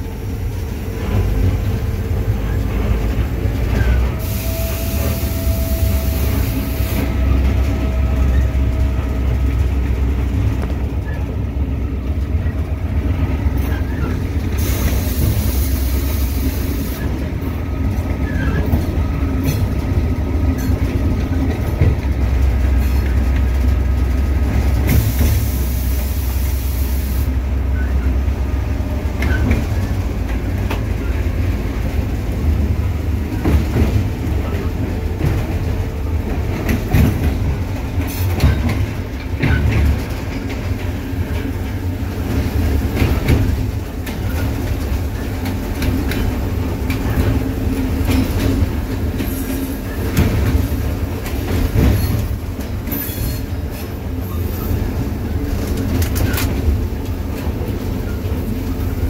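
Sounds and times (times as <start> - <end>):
locomotive diesel engine running: 0.0 - 59.0.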